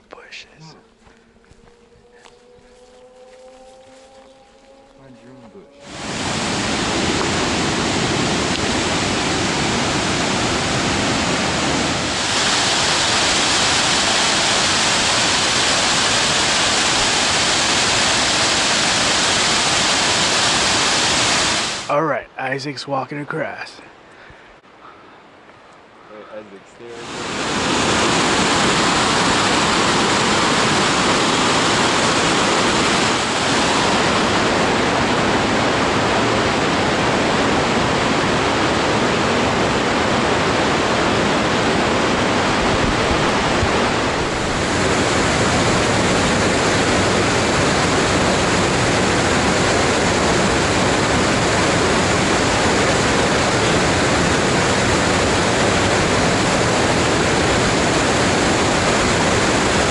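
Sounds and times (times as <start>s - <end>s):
waterfall roaring: 5.2s - 23.6s, 26.2s - 59.9s.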